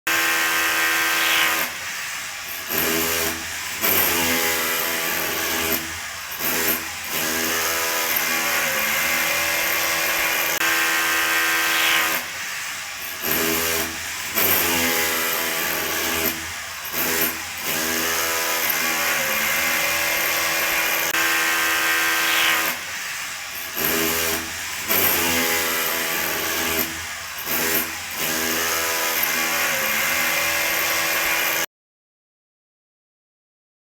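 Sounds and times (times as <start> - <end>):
drill whining: 0.1 - 31.7.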